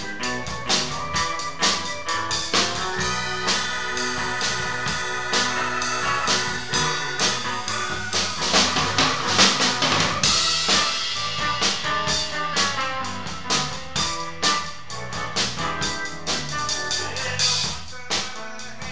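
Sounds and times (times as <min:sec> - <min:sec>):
sustained keyboard chords: 0:00.0 - 0:18.9.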